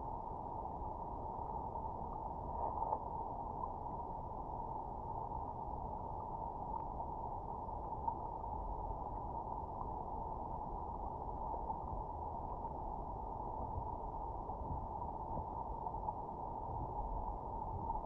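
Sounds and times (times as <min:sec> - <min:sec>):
faint ticks: 0:01.2 - 0:04.2, 0:06.2 - 0:18.0.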